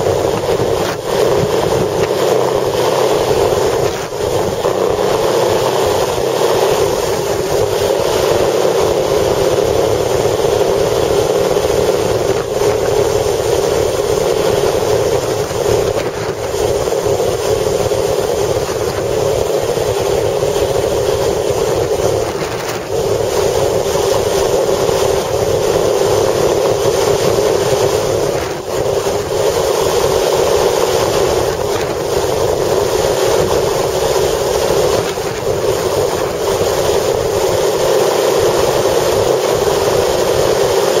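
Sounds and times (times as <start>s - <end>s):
strong wind: 0.0s - 41.0s
vehicle running: 0.0s - 41.0s.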